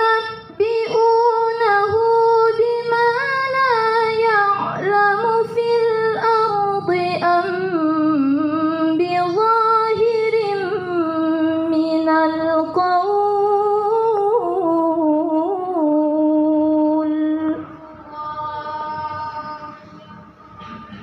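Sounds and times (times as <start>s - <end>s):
woman chanting into a microphone: 0.0s - 20.0s.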